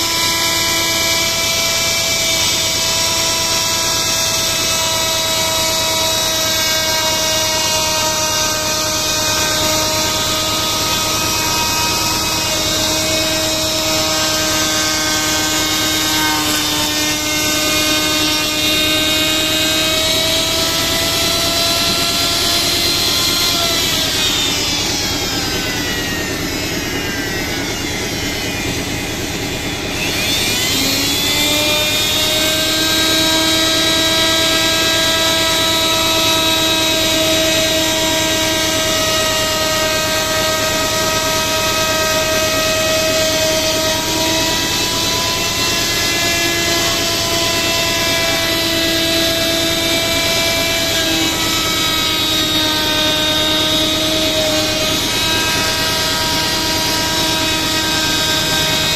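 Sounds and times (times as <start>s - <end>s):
power tool motor whining: 0.0s - 58.9s.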